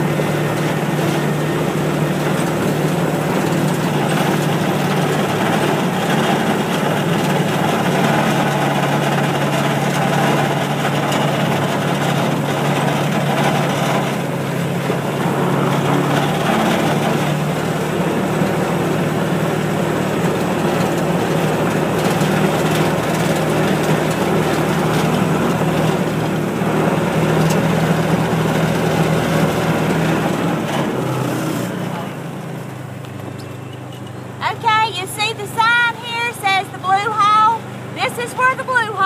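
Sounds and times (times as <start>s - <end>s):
small vehicle engine humming: 0.0s - 39.0s.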